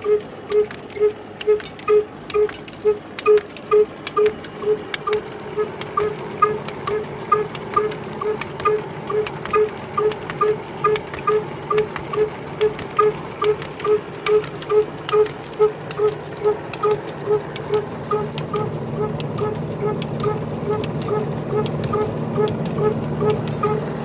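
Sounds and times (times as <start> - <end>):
diesel engine running slowly: 0.0 - 24.0.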